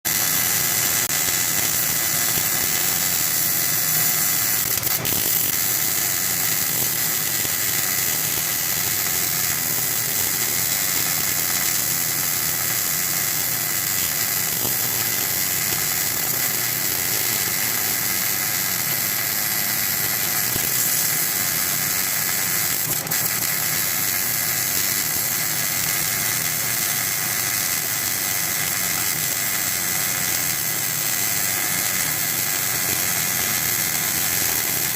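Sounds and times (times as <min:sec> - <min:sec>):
welding arc hissing: 0:00.1 - 0:34.9.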